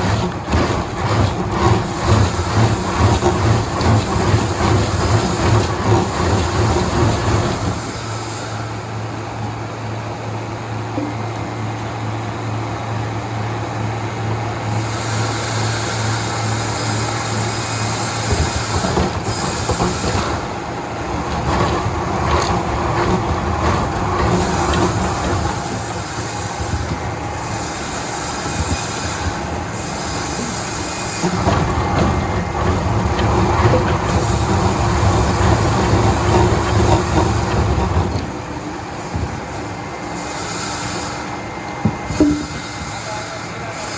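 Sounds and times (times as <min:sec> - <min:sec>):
sawmill machinery rumbling: 0:00.0 - 0:43.9.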